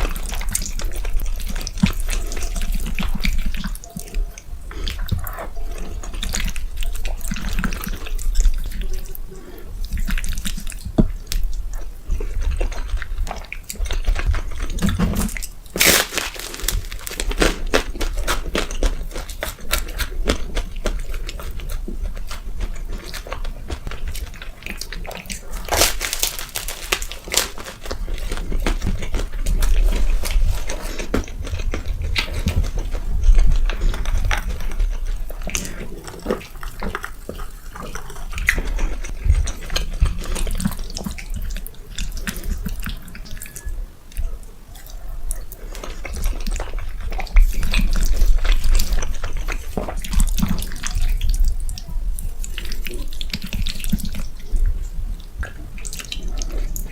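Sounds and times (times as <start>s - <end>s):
wet chewing and smacking: 0.0s - 56.9s.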